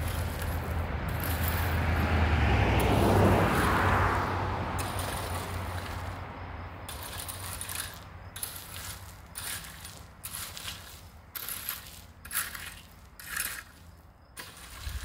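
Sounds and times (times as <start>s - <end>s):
vehicle passing by: 0.0s - 13.9s.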